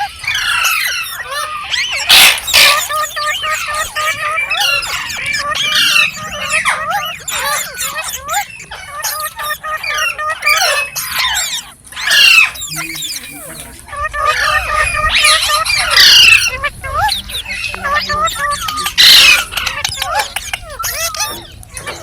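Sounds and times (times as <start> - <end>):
parrot chattering: 0.0 - 22.0.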